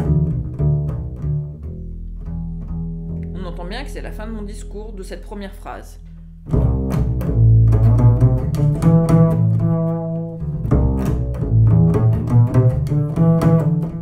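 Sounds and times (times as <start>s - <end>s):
double bass plucked: 0.0s - 14.0s.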